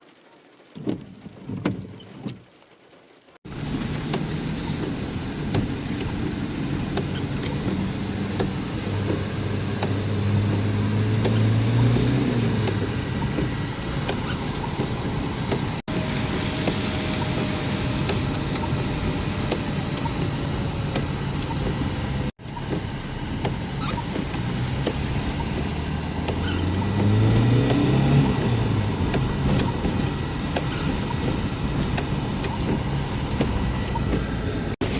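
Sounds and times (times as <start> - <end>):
motor engine revving: 3.5 - 34.9
rushing noise: 3.5 - 34.9.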